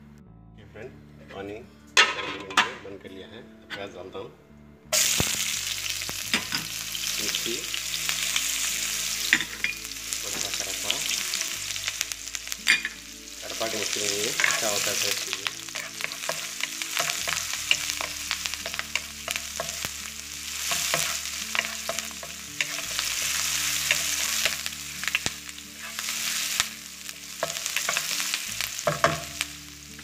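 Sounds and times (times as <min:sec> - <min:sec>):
food sizzling in hot oil: 0:04.9 - 0:30.0.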